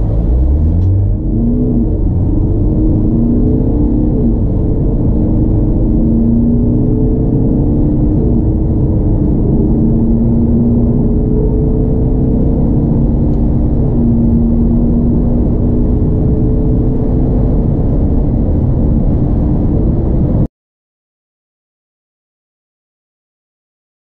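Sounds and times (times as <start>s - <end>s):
car engine drone: 0.0s - 20.5s
tyre and road rumble: 0.0s - 20.5s.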